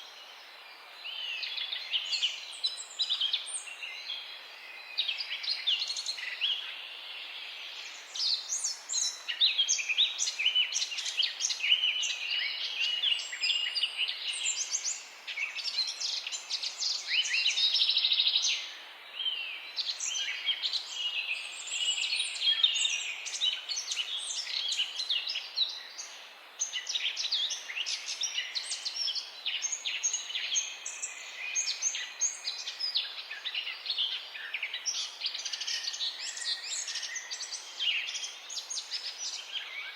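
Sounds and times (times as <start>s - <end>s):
faint background hiss: 0.0s - 39.9s
songbirds chirping and trilling: 0.0s - 39.9s.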